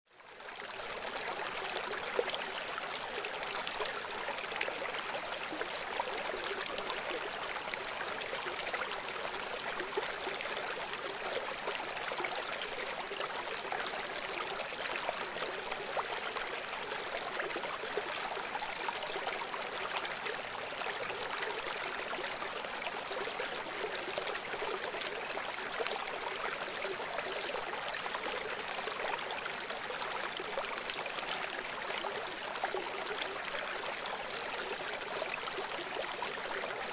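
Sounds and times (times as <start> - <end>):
running water flowing steadily: 0.1 - 36.9.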